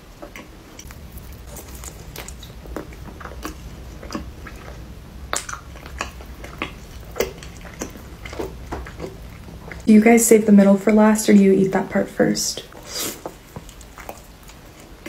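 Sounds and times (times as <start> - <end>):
person chewing: 0.0 - 9.9, 12.6 - 15.0.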